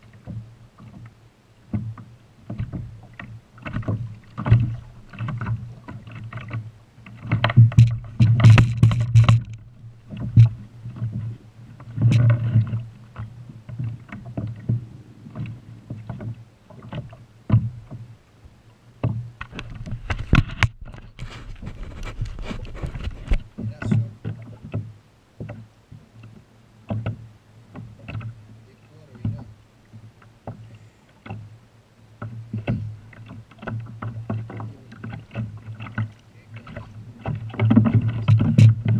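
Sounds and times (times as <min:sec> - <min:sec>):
knocks and bumps on a kayak: 0:00.0 - 0:18.2, 0:19.0 - 0:38.9
water lapping at hull: 0:00.0 - 0:38.9.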